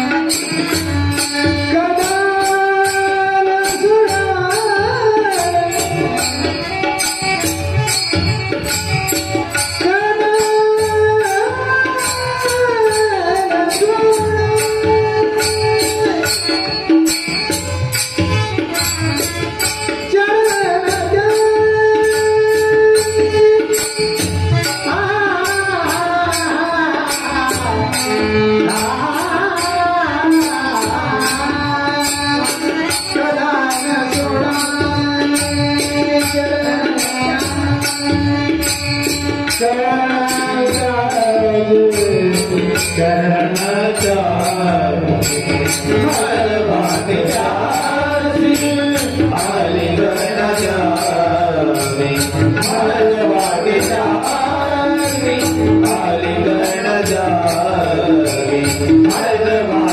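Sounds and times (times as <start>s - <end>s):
small hand cymbals: 0.0s - 59.5s.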